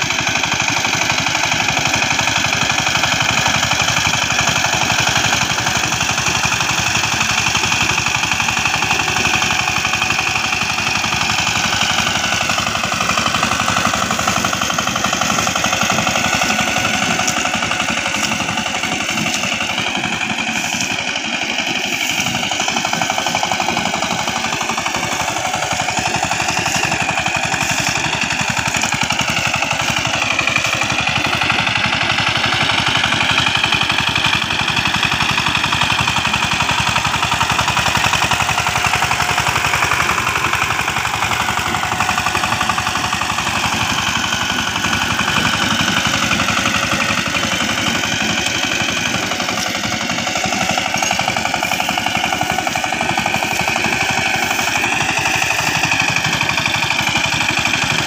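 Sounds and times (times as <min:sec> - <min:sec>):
diesel tiller engine chugging: 0:00.0 - 0:58.0.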